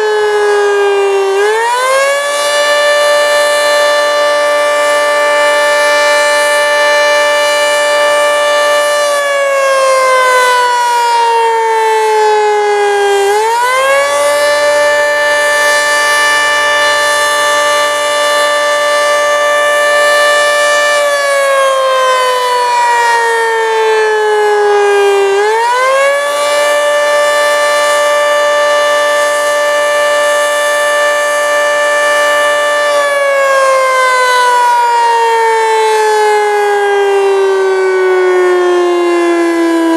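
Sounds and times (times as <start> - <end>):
three-tone warning siren: 0.0 - 39.9.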